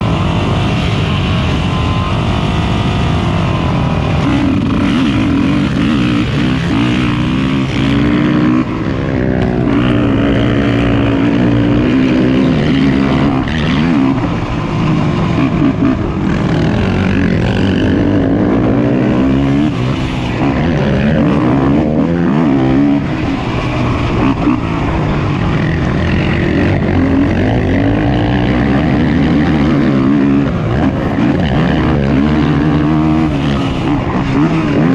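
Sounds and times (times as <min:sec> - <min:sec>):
racing atv engines revving: 0:00.0 - 0:34.9.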